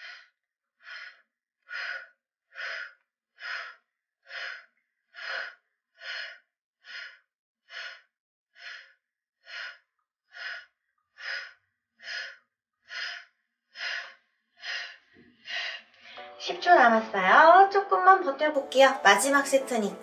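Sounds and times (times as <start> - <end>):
woman breathing forcefully: 0.0 - 16.3.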